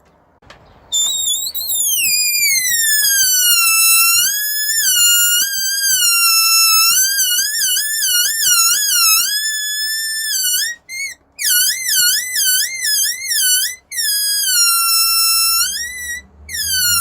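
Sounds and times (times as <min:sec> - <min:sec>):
balloon deflating with squeal: 0:00.9 - 0:17.0.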